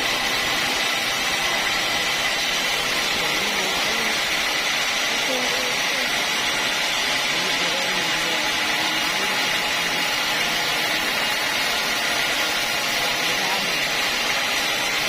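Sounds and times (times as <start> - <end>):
sawmill saw running: 0.0 - 15.0.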